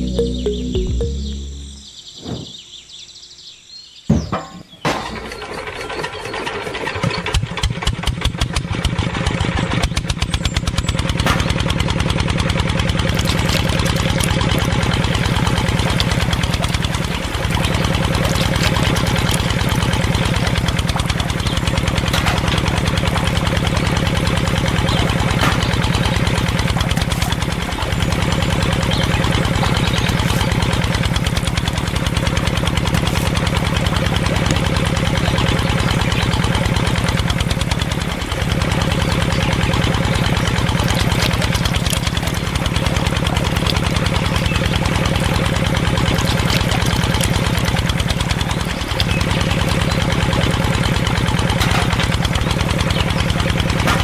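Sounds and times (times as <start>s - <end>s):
diesel engine starting and running: 0.0s - 3.2s, 5.0s - 54.0s.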